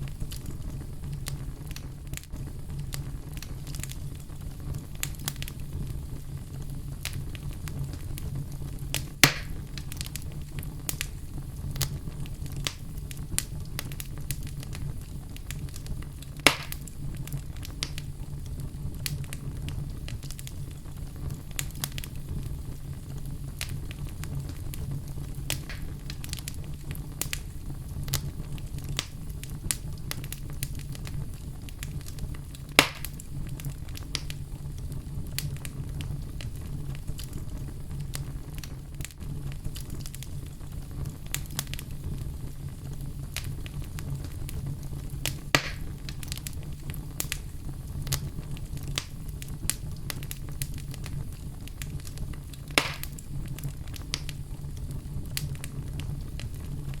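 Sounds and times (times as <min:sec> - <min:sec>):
loud fire pops: 0:00.0 - 0:57.0
wood fire crackling: 0:00.0 - 0:57.0.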